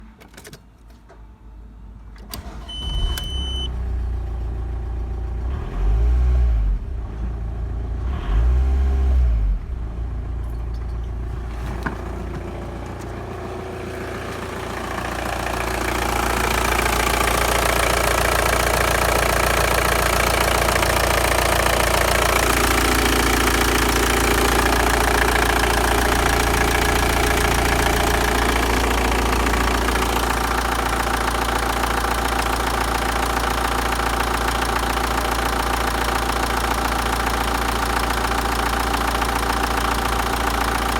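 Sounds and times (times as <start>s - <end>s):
turbodiesel engine running: 1.9s - 40.9s.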